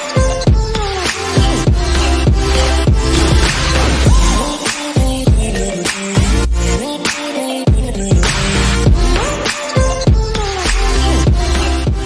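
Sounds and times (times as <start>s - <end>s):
music with heavy bass: 0.1s - 7.1s, 7.7s - 12.0s.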